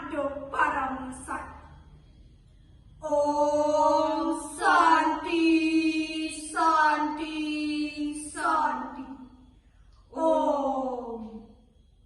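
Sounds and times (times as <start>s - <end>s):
woman chanting: 0.0s - 1.8s, 3.0s - 9.5s, 10.1s - 11.7s.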